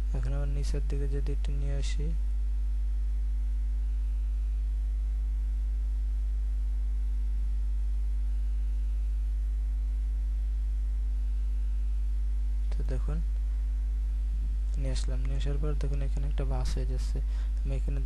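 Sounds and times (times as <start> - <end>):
mains hum: 0.0 - 18.0.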